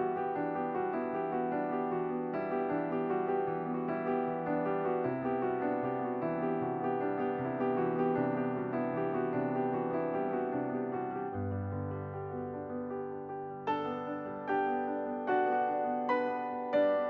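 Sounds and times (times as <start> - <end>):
gentle electric piano music: 0.0 - 17.0.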